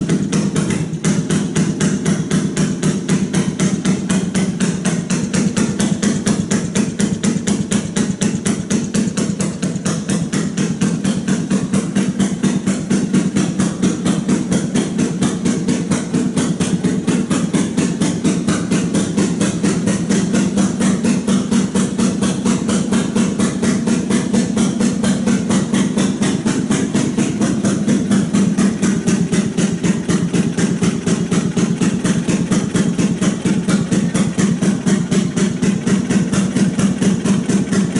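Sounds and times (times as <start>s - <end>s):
two-stroke engine idling: 0.0s - 37.9s.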